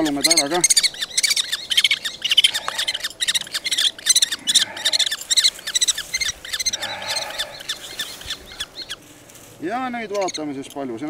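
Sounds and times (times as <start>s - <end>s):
kestrels calling: 0.0s - 11.0s.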